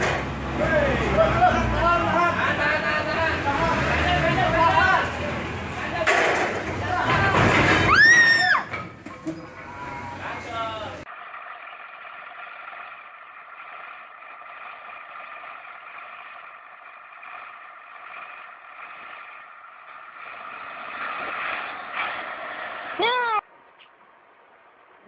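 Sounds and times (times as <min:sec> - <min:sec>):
tractor diesel engines droning: 0:00.0 - 0:25.0.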